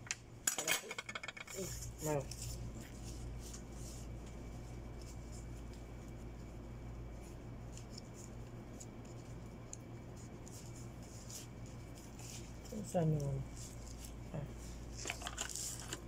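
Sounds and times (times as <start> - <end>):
steady low hum: 0.0 - 16.0
wrapping paper crinkling: 1.6 - 16.0.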